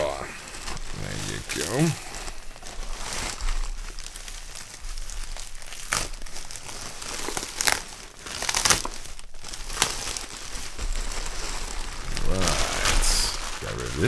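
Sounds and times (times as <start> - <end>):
plastic bag and bubble wrap crinkling: 0.0 - 14.0.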